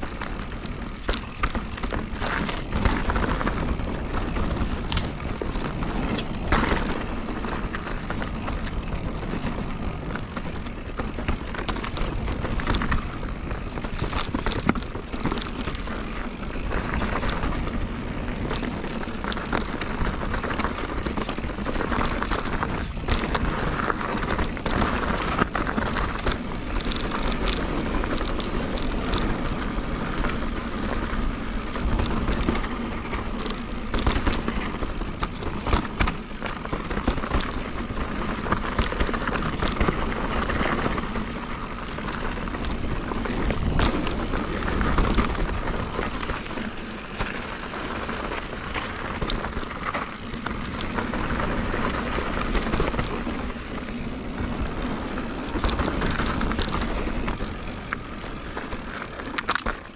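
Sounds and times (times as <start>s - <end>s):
bike knocking and rattling: 0.0s - 59.9s.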